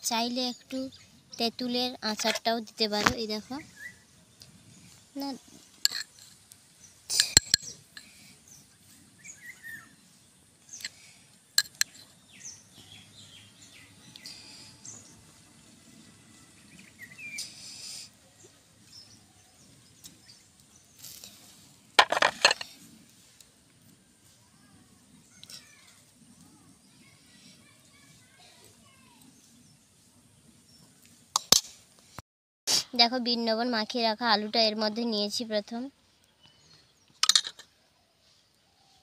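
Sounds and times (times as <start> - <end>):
birds chirping faintly: 0.0 - 32.2, 33.0 - 39.0.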